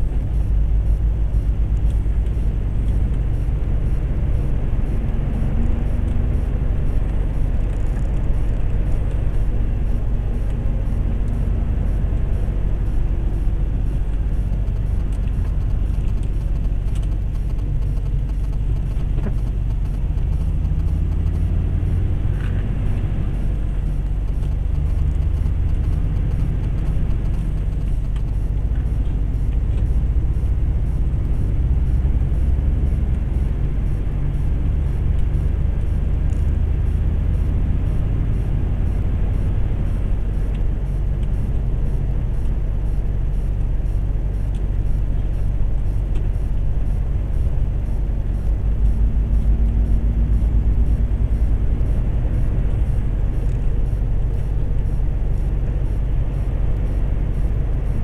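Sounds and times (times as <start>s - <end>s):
lorry engine drone: 0.0s - 58.0s
tyre and road rumble: 0.0s - 58.0s.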